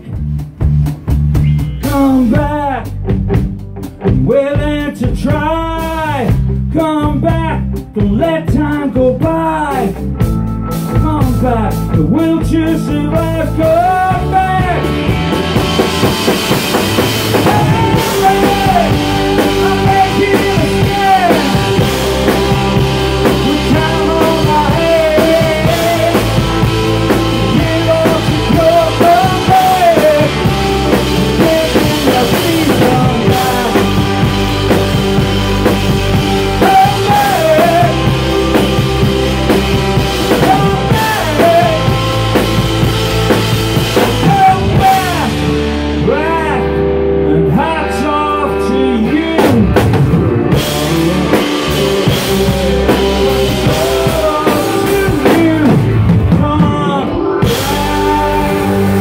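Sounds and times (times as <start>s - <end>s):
drums: 0.0s - 59.0s
lead electric guitar with bent notes: 0.0s - 59.0s.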